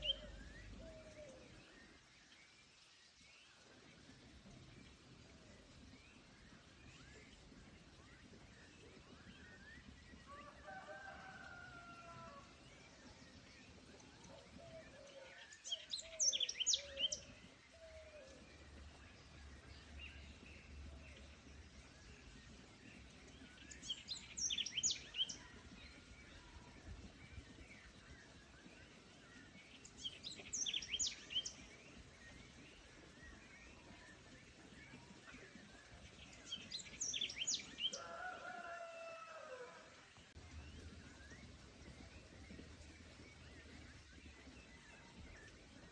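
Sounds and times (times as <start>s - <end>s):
faint woods background: 0.0s - 45.9s.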